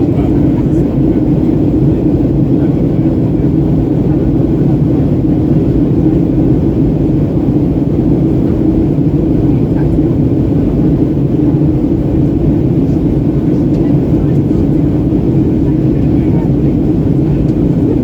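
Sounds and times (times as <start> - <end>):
airplane cabin drone: 0.0 - 18.0.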